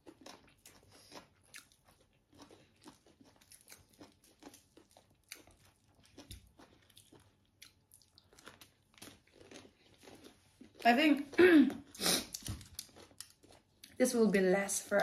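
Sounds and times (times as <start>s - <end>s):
fingers crunching shredded salad: 0.0s - 10.8s, 12.2s - 14.0s.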